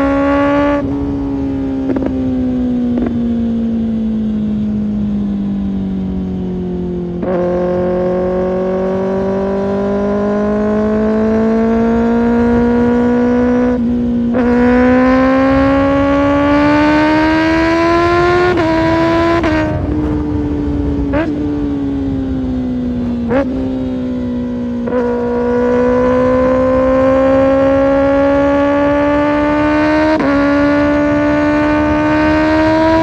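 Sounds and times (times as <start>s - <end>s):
motorcycle engine under throttle: 0.0s - 33.0s.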